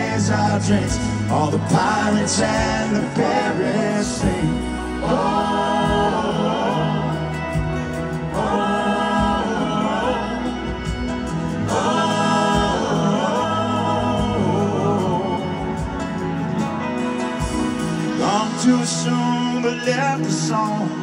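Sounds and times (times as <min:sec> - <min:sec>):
band playing guitars bass and drums: 0:00.0 - 0:21.0
voices singing wordless harmonies: 0:00.0 - 0:21.0.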